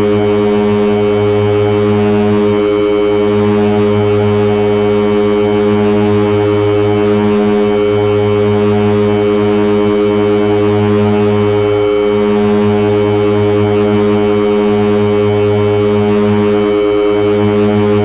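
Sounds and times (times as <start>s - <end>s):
electronic drone of beating tones: 0.0s - 18.0s.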